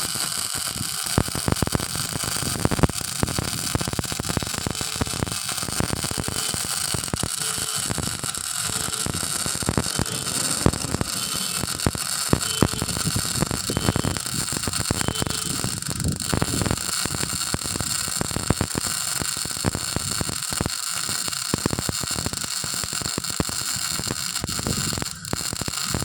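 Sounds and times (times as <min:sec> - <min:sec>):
sharp welding pops: 0:00.0 - 0:26.0
welding arc crackling hiss: 0:00.0 - 0:26.0.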